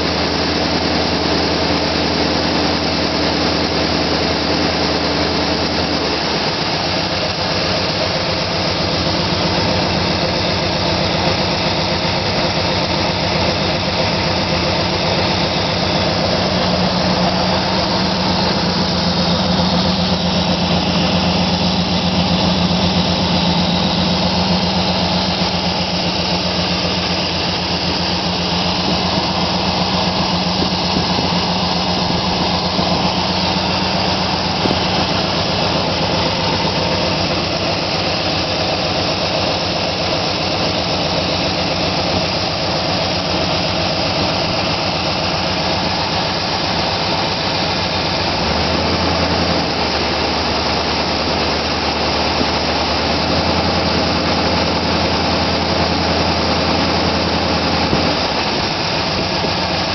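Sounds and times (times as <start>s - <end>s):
car engine running steadily: 0.0s - 59.9s.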